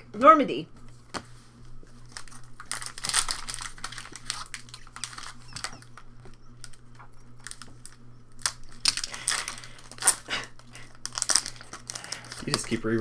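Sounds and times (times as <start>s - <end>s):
trading cards flipping: 0.8s - 13.0s.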